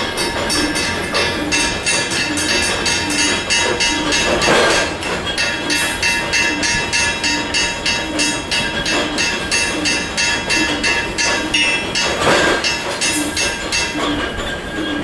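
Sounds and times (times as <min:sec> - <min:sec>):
machine clattering rhythmically: 0:00.0 - 0:15.0
steady whine: 0:00.0 - 0:15.0.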